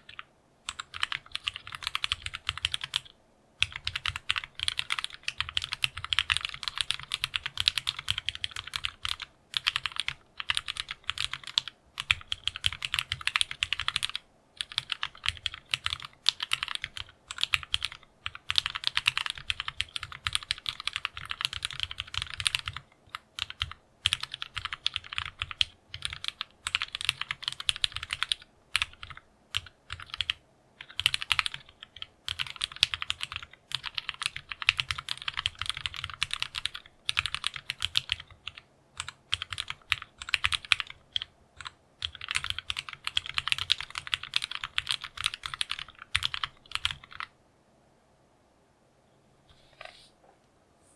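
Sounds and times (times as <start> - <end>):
mechanical keyboard typing: 0.0 - 47.3.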